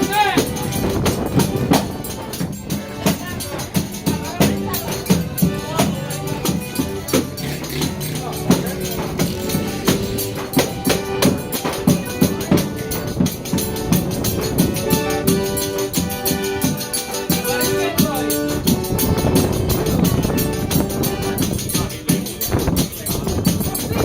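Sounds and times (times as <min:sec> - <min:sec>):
live folk band melody: 0:00.0 - 0:24.0
steady percussion beat: 0:00.0 - 0:24.0.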